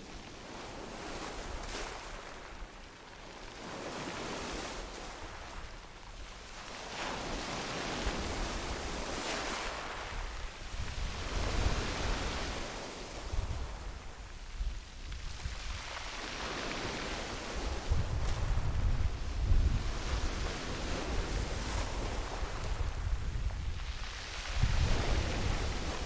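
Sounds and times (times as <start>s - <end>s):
waves breaking on pebble beach: 0.0s - 2.8s, 3.4s - 5.8s, 6.4s - 14.5s, 15.1s - 26.0s.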